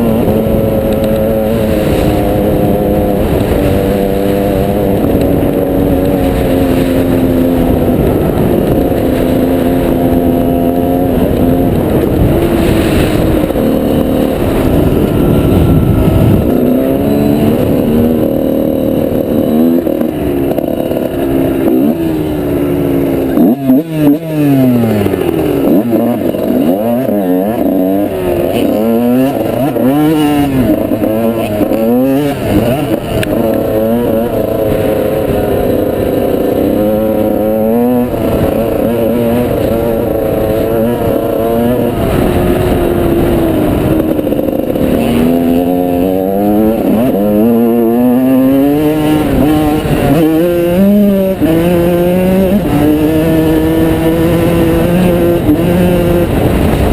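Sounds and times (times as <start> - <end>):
motorbike engine revving: 0.0 - 56.9.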